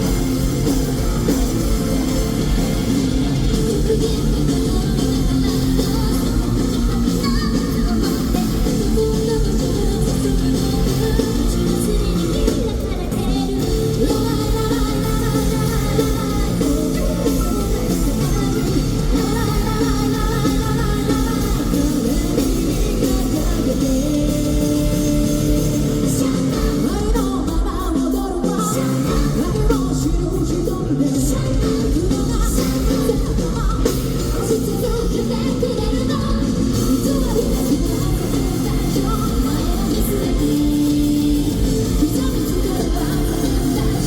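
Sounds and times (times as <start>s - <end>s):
live rock band playing: 0.0s - 44.0s
woman singing: 0.0s - 44.0s.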